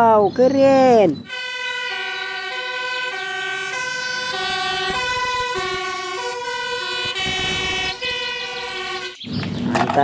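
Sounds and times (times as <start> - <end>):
two-tone fire engine sirens: 1.1 - 9.7.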